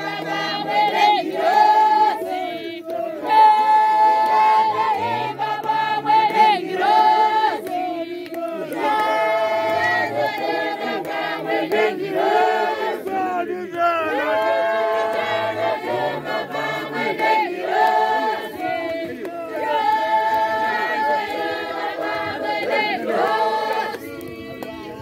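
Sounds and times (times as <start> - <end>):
women's voices singing a hymn: 0.0 - 25.0.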